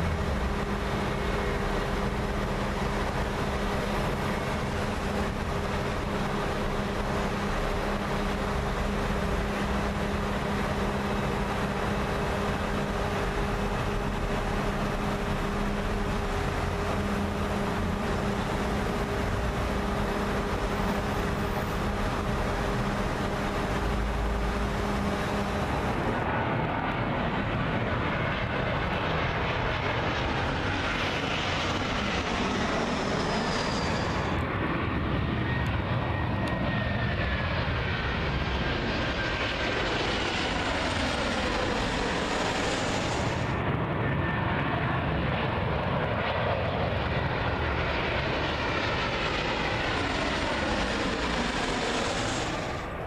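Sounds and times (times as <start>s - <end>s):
airliner passing overhead whining: 0.0s - 53.0s
jet engines humming: 0.0s - 53.0s.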